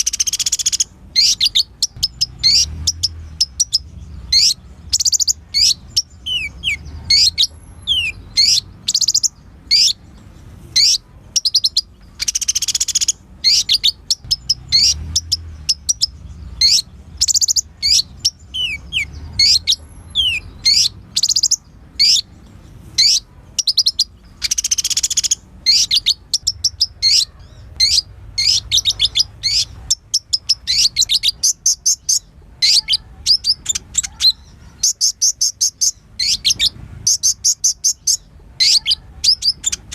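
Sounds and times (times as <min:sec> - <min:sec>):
buzzy bird trill: 0:00.0 - 0:39.9
sunbird singing high chirps: 0:00.0 - 0:39.9.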